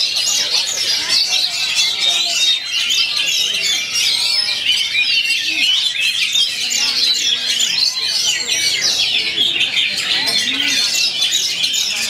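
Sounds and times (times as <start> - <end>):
faint voices: 0.0 - 12.0
many birds singing: 0.0 - 12.0.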